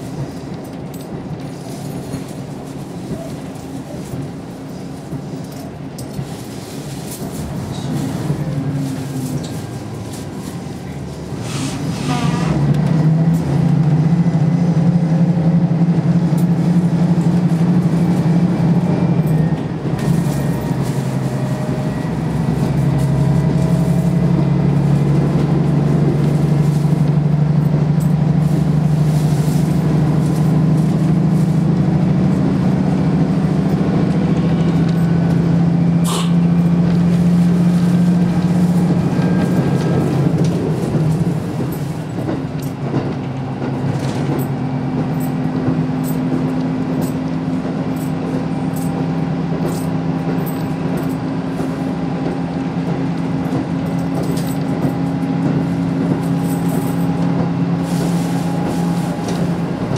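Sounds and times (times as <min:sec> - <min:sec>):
diesel engine droning: 0:00.0 - 0:59.9
wheels on rails: 0:00.0 - 0:59.9.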